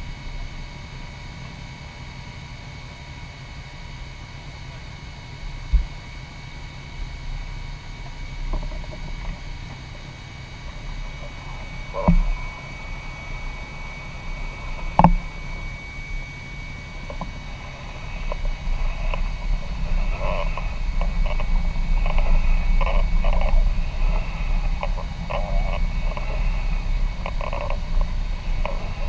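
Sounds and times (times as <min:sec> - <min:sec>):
faint steady whine: 0:00.0 - 0:29.0
motorcycles and traffic rumbling: 0:04.2 - 0:29.0.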